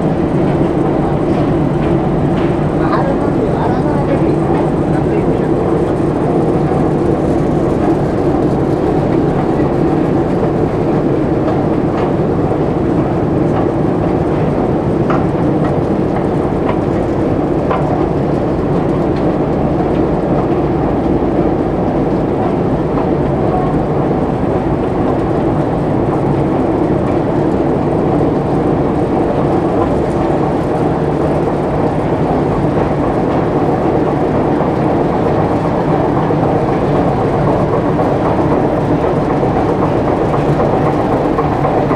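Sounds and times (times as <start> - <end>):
escalator rumbling: 0.0 - 41.9.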